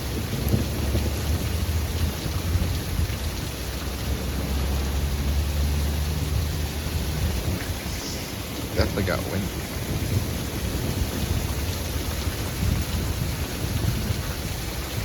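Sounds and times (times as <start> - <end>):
heavy rain pouring: 0.0 - 15.0
low thunder rumble: 0.0 - 15.0.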